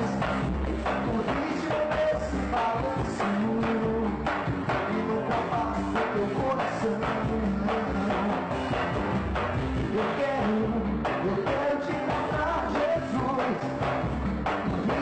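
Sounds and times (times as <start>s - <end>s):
person singing: 0.0s - 8.9s, 9.8s - 15.0s
live band playing loud music: 0.0s - 15.0s.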